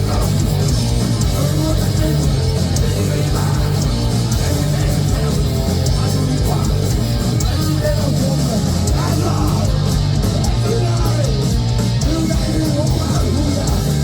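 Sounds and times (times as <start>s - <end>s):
heavy metal band playing: 0.0s - 14.0s.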